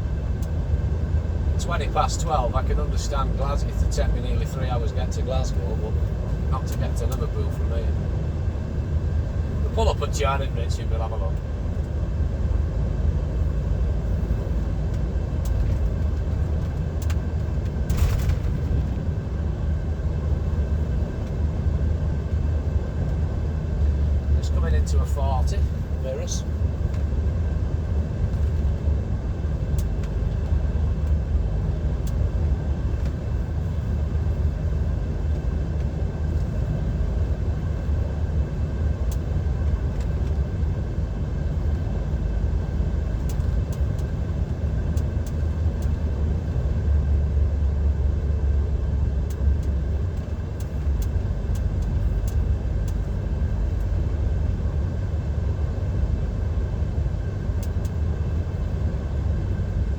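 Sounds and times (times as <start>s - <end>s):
lorry engine and road rumble: 0.0s - 59.9s.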